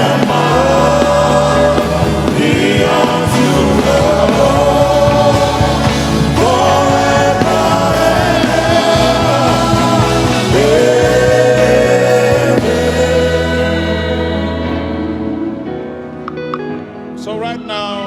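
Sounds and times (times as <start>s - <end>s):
voices singing long notes: 0.0s - 15.8s.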